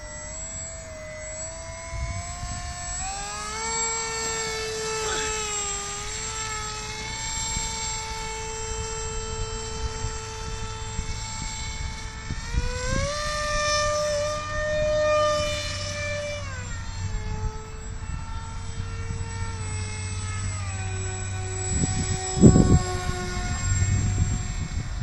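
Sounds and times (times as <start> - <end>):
model jet motor whining: 0.0 - 25.0.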